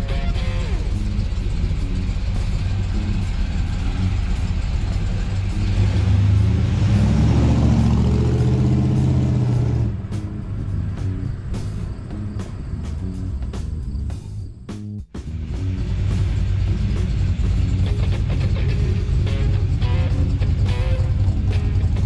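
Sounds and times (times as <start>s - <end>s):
pickup truck engine accelerating: 0.0s - 22.0s.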